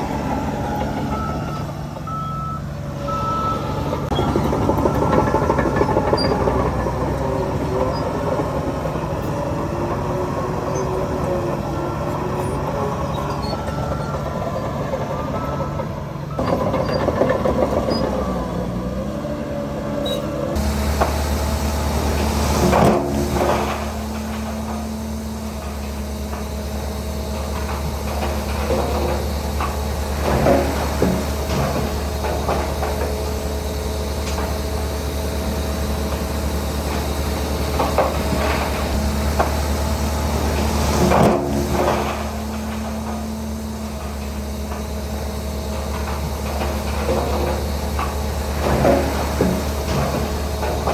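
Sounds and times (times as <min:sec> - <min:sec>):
diesel engine droning: 0:00.0 - 0:50.9
loud clanks and knocks: 0:03.2 - 0:18.7, 0:20.6 - 0:35.0, 0:36.0 - 0:50.9.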